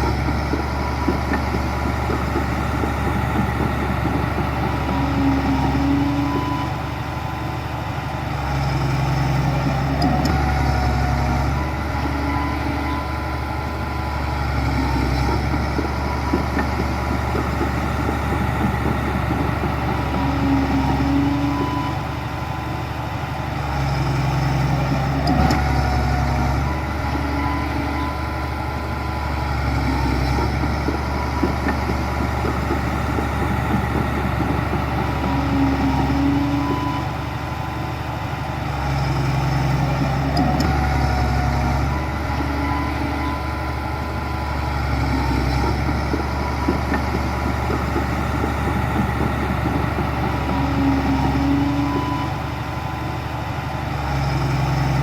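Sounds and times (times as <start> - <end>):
diesel machinery engine working: 0.0 - 55.0.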